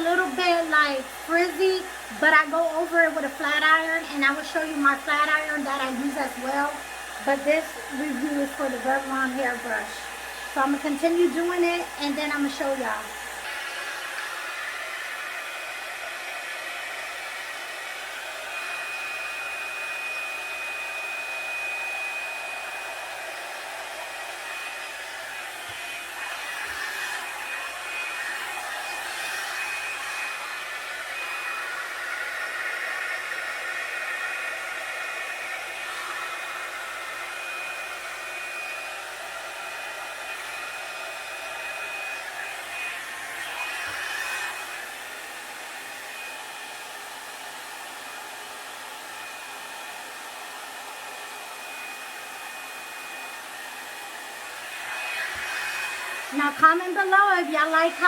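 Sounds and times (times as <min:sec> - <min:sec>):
blow dryer brush running: 0:00.0 - 0:58.0.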